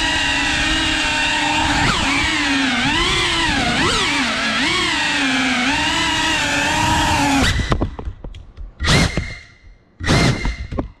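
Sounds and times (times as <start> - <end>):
drone motors whining: 0.0 - 7.9, 8.8 - 10.8.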